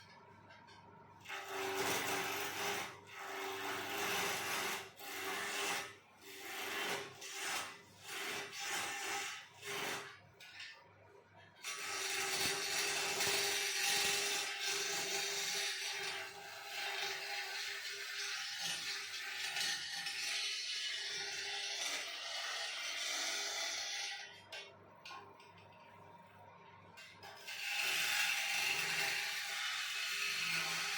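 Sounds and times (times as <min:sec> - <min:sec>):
turning tool cutting wood: 0:01.3 - 0:10.2, 0:11.6 - 0:24.3, 0:27.4 - 0:30.9.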